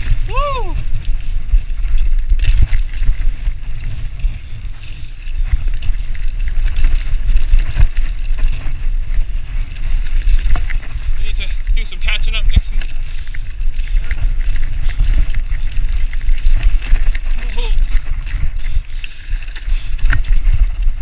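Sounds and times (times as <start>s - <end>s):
wind buffeting microphone: 0.0s - 21.0s
bike knocks and rattles: 0.9s - 18.8s.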